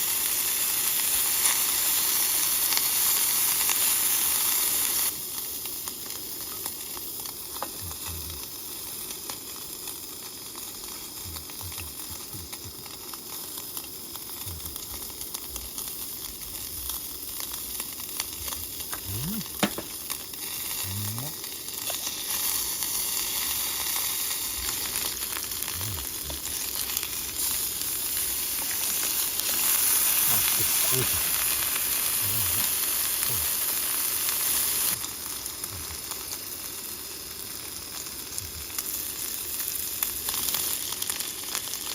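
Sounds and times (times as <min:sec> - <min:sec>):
beef sizzling: 0:00.0 - 0:41.9.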